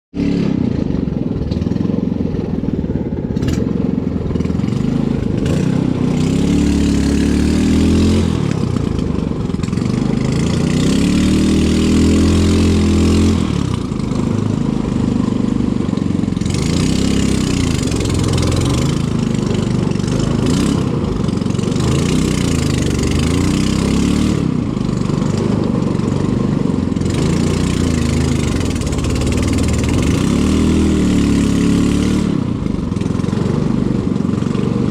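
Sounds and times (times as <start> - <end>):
engine revving: 0.2 - 34.9.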